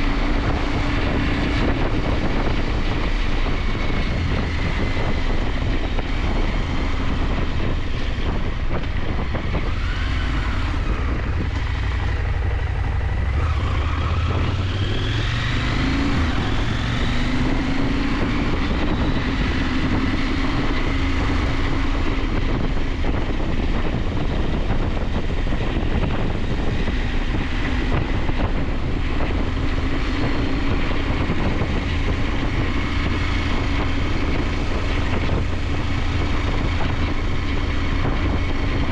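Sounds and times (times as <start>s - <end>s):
wind rush on microphone: 0.0s - 38.9s.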